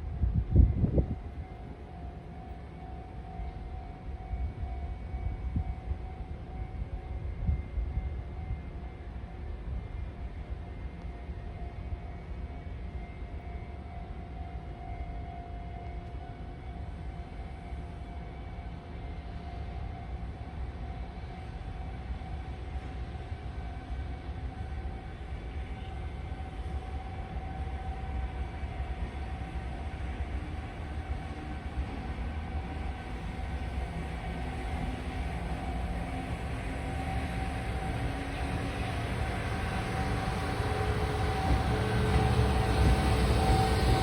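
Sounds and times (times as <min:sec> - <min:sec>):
diesel train engine drone: 0:00.0 - 0:44.0.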